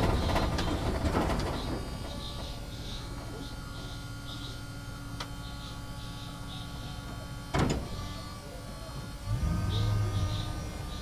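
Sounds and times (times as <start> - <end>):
backhoe loader engine running: 0.0 - 11.0.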